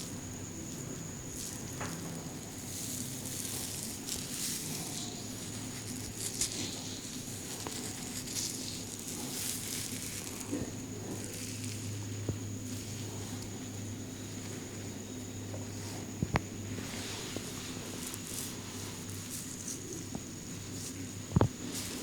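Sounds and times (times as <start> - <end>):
hands rustling through hair: 0.0 - 22.0
steady low hum: 0.0 - 22.0.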